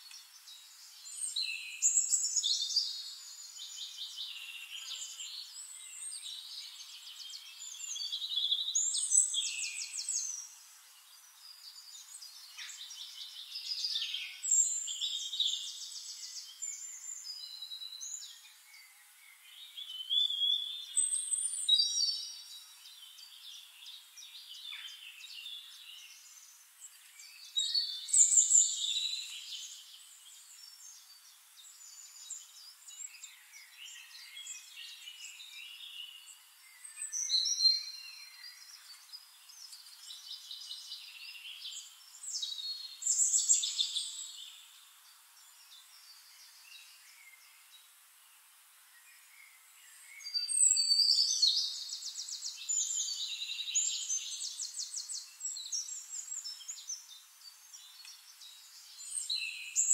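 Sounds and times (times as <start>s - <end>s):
quiet bird chirping: 0.0s - 59.9s.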